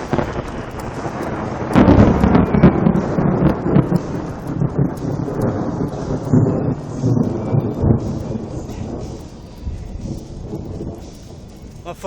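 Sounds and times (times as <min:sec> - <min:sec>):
rolling thunder: 0:00.0 - 0:11.9.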